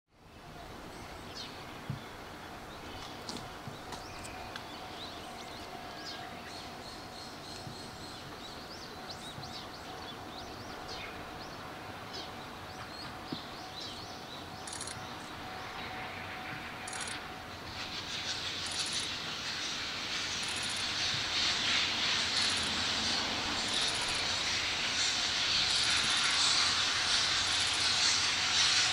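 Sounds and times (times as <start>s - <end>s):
train approaching rushing hiss: 0.2s - 28.9s.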